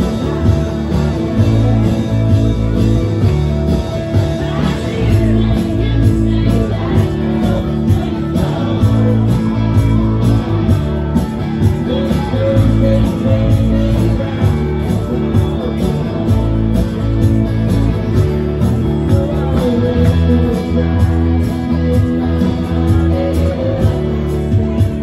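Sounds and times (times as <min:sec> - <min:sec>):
bass guitar: 0:00.0 - 0:25.0
drum kit beat: 0:00.0 - 0:25.0
electric guitars: 0:00.0 - 0:25.0
person singing: 0:00.0 - 0:25.0.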